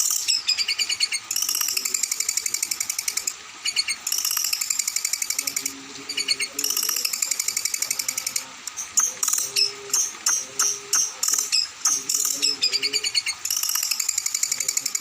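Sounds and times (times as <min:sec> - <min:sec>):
songbird trilling: 0:00.0 - 0:15.0.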